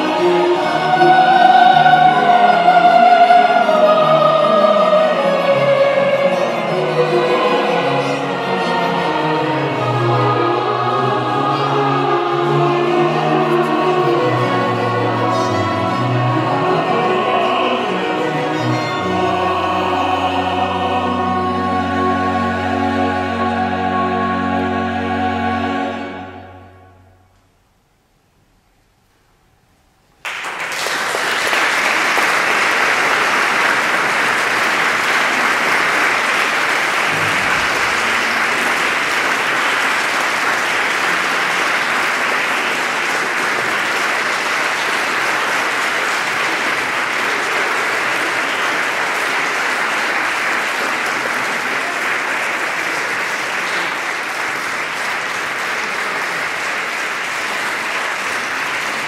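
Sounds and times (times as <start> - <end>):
audience applauding: 0.0 - 21.2, 30.2 - 59.0.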